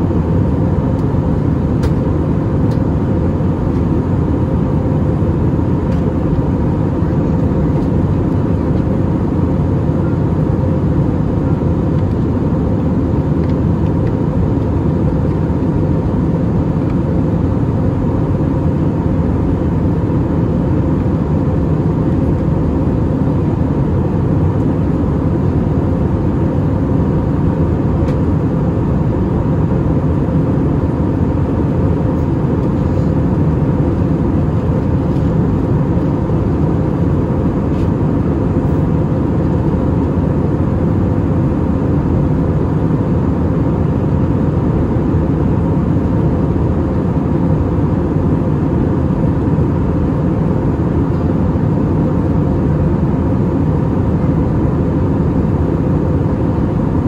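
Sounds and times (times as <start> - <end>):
airplane cabin engine noise: 0.0 - 57.0.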